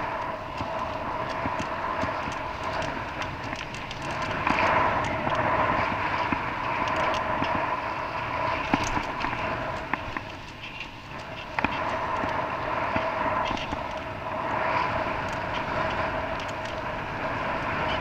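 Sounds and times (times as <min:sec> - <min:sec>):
engine and road noise hum: 0:00.0 - 0:18.0
small clicks and rattles: 0:00.0 - 0:18.0.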